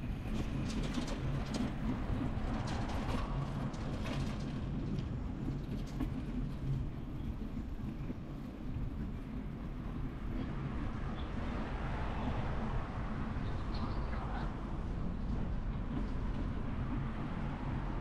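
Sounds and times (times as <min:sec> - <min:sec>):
vehicle rumbling: 0:00.0 - 0:18.0.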